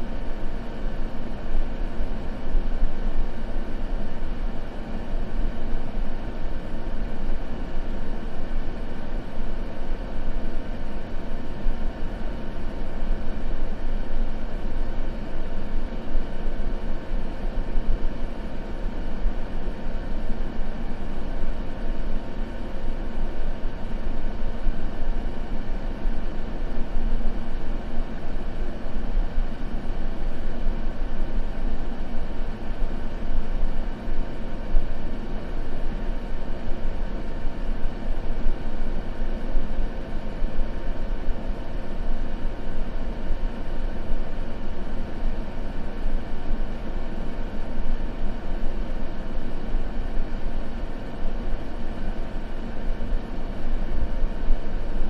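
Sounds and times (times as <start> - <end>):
faint hum: 0.0 - 55.0
white noise: 0.0 - 55.0.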